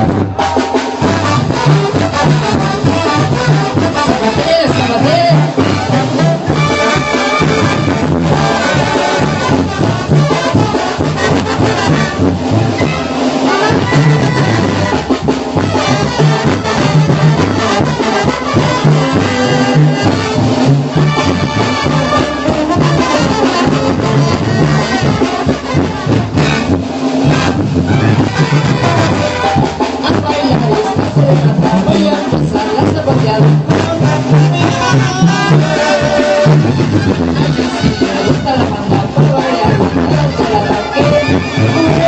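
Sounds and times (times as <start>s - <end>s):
brass band music: 0.0s - 42.0s
tuba and drum beat: 0.0s - 42.0s.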